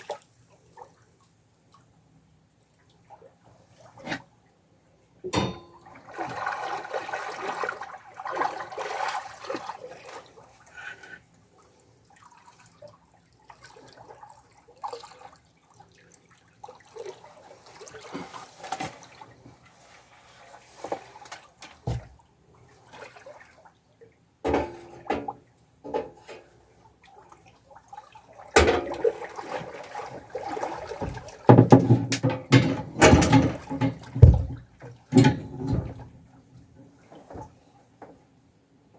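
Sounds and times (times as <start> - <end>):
water splashing and sloshing: 0.0 - 38.9.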